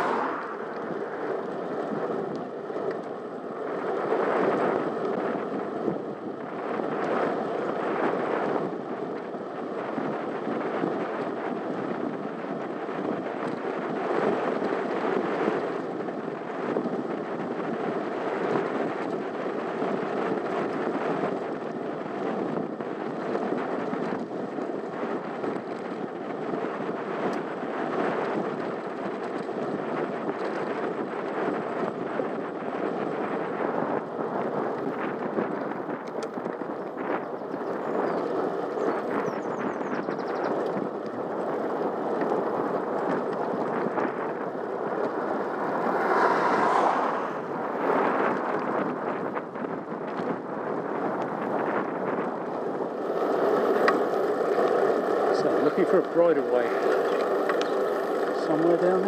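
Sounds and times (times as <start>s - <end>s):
bicycle tyres rolling on tarmac: 0.0s - 59.0s
wind rushing on microphone: 0.0s - 59.0s.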